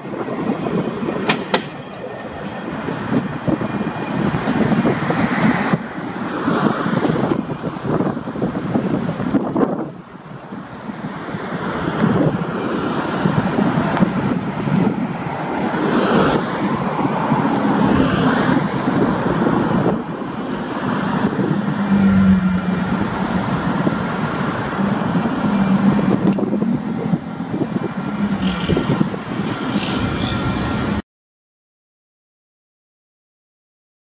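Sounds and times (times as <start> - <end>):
freight train rattling rumble: 0.0 - 31.0.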